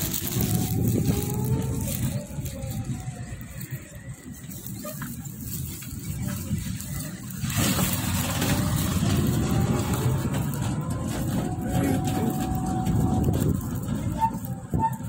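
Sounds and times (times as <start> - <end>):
auto-rickshaw engine: 0.0 - 15.0
road rumble: 0.0 - 15.0
rushing noise: 0.0 - 15.0.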